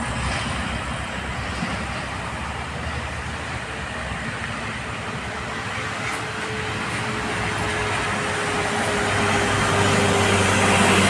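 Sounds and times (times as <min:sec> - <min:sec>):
cars and motorcycles driving past: 0:00.0 - 0:11.0.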